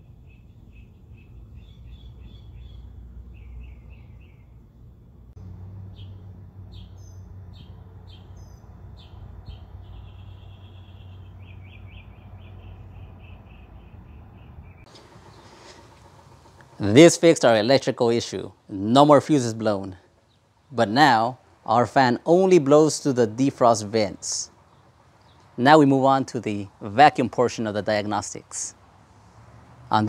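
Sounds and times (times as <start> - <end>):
small birds chirping: 0.0 - 5.1, 5.8 - 26.9
low steady background hum: 0.0 - 30.0.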